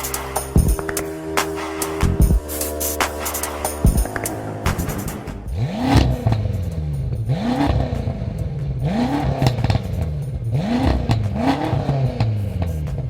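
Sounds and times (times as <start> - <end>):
car engine revving over idle: 0.0 - 13.0.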